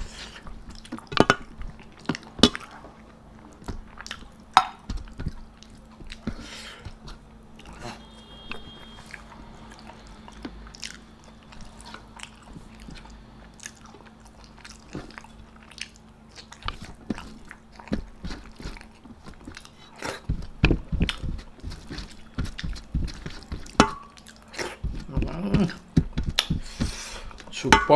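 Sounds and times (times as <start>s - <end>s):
person chewing crunchy food: 0.0s - 27.5s.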